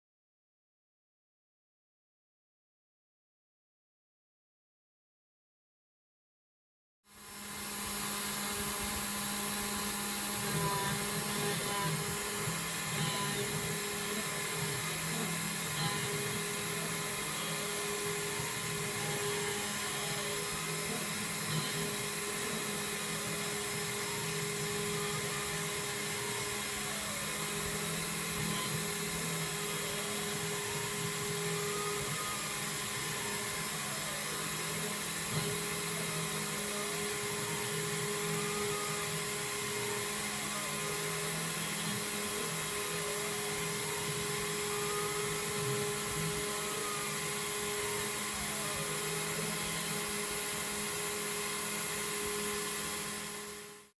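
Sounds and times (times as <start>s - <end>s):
router spindle whining: 7.1s - 53.9s
stepper motor tones: 7.1s - 53.9s
end mill cutting metal: 7.3s - 53.6s.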